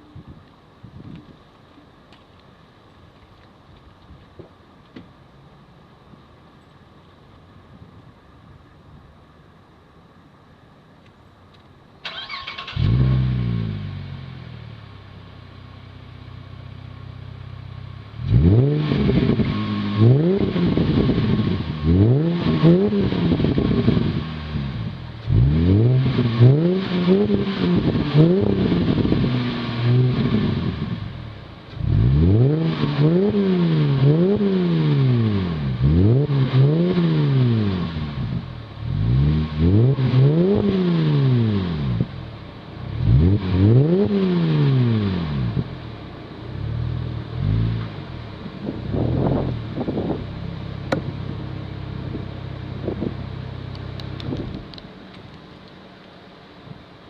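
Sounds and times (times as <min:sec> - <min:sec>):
car engine idling and revving: 0:10.1 - 0:57.0.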